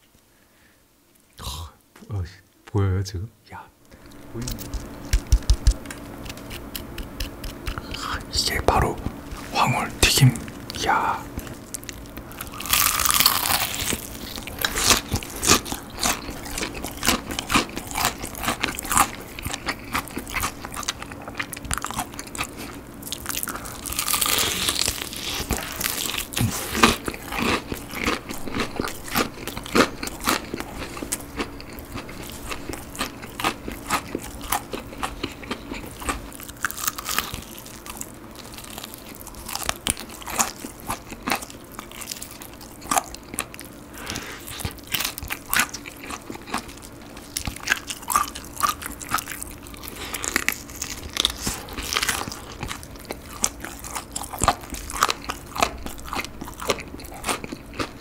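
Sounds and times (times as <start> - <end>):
crunchy chewing of fried chicken: 3.9 - 58.0.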